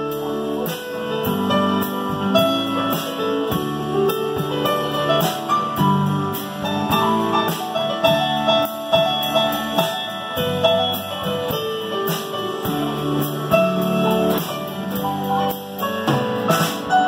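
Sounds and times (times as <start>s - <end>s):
bass guitar: 0.0s - 17.0s
drum kit with cymbals: 0.0s - 17.0s
electric keyboard piano sound: 0.0s - 17.0s.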